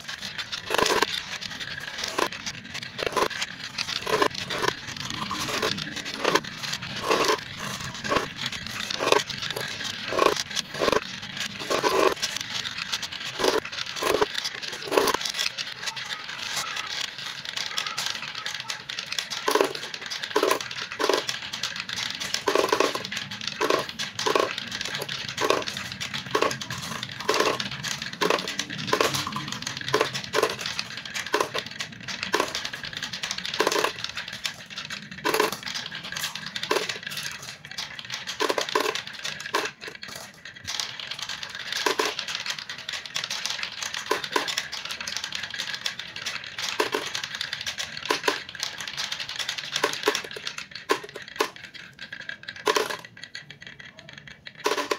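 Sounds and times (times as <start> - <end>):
marbles clacking together: 0.0 - 54.9
marbles dropping into plastic bottle: 0.0 - 54.9
marbles rolling on wooden run: 0.0 - 54.9.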